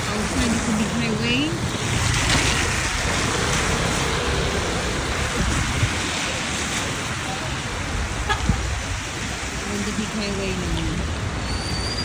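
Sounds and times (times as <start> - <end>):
passing traffic: 0.0 - 12.0
rain: 0.0 - 12.0
wind buffeting microphone: 0.0 - 12.0.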